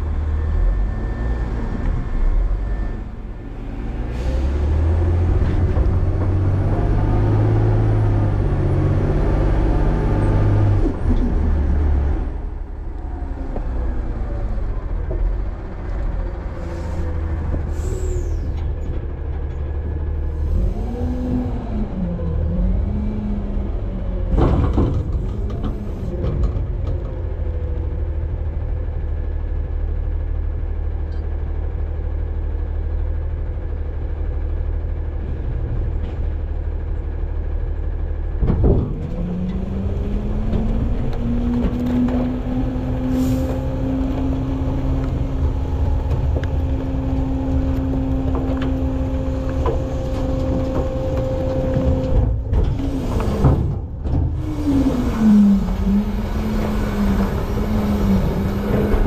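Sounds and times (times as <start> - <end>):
garbage truck engine running: 0.0 - 59.0.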